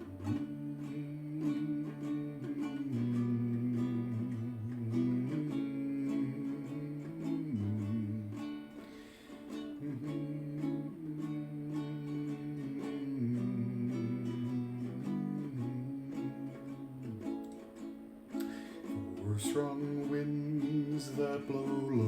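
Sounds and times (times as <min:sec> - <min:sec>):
ukulele strumming chords: 0:00.0 - 0:22.0.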